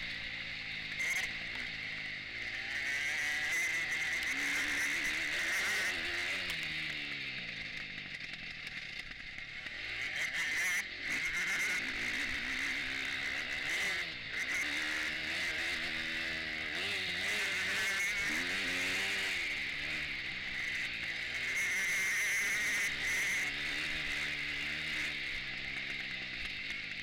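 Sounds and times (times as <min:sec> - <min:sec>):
motocross bike engine revving: 0:00.0 - 0:27.0.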